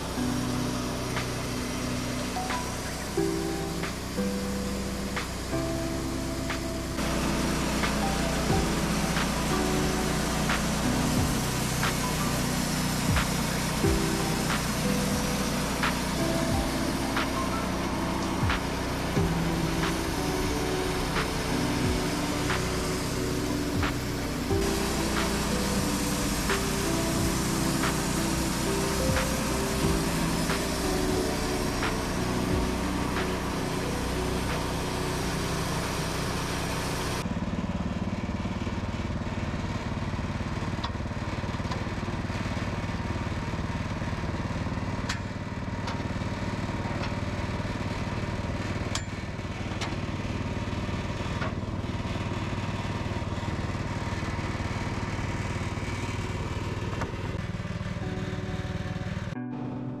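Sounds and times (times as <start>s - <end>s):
small gasoline engine running: 0.0s - 60.0s.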